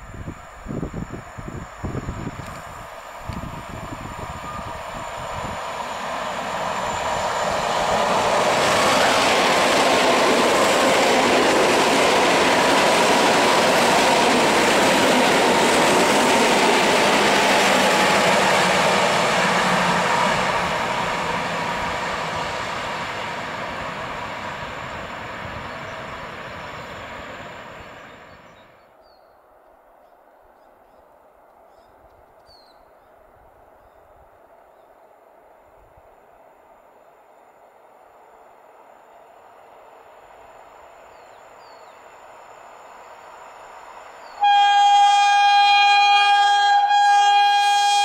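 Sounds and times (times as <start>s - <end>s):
train passing at speed: 0.0s - 48.0s.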